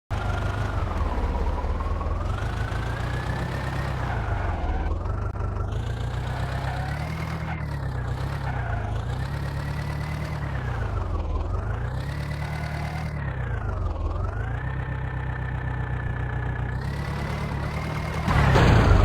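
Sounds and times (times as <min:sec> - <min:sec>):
tractor diesel engine running: 0:00.1 - 0:19.0.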